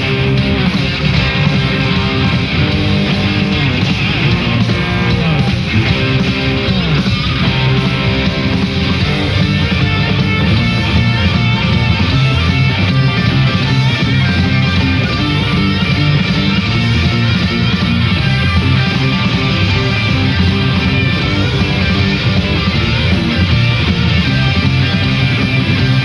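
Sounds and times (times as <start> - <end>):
electric guitar sliding notes: 0.0 - 26.0
live rock band playing: 0.0 - 26.0.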